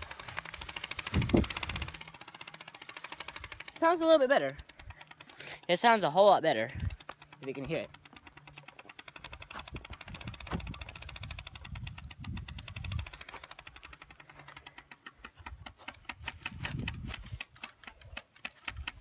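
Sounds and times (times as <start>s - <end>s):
playing card clicking in bicycle spokes: 0.0s - 3.8s, 6.7s - 19.0s.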